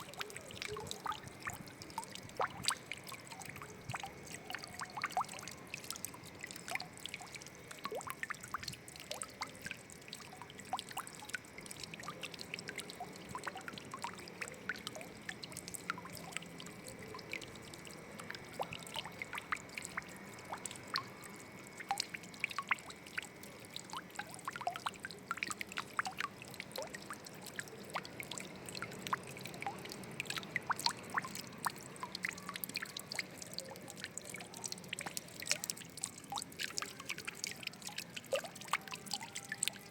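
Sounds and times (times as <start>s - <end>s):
water drops plinking and splashing: 0.0s - 39.9s.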